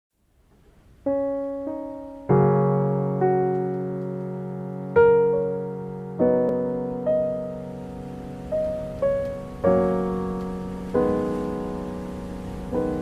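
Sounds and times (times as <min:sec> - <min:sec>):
slow soft piano music: 0:00.5 - 0:13.0.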